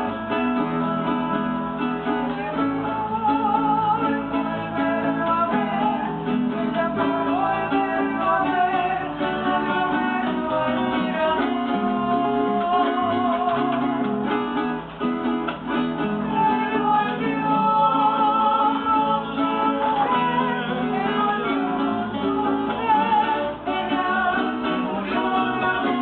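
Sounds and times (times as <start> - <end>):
woman singing: 0.0 - 14.8, 15.9 - 26.0
voices singing: 0.0 - 14.9, 15.5 - 26.0
acoustic guitar: 0.0 - 26.0
small plucked string instrument: 0.0 - 26.0.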